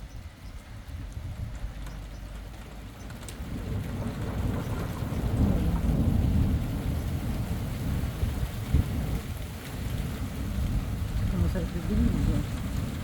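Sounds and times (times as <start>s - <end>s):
thunder rumbling: 0.8s - 13.0s.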